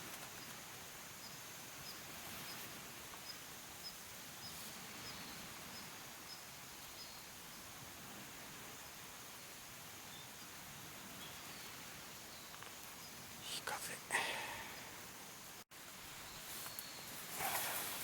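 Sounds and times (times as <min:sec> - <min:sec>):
soft outdoor hiss: 0:00.0 - 0:18.0.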